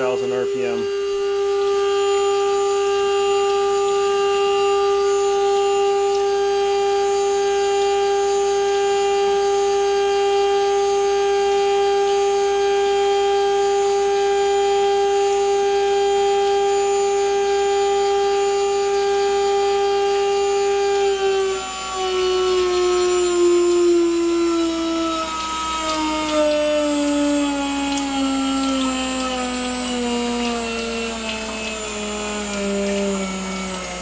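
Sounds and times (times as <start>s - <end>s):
spindle motor whine: 0.0s - 34.0s.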